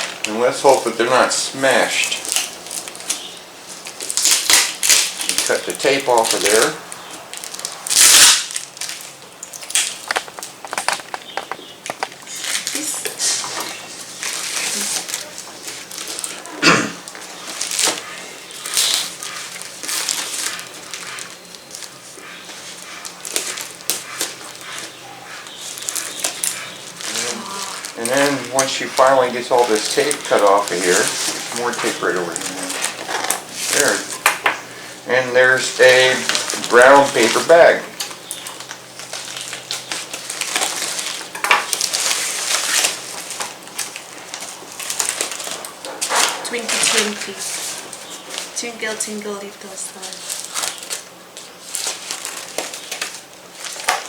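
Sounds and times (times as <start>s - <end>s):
packing tape ripping: 0.0s - 34.4s, 35.1s - 49.2s, 50.0s - 54.0s.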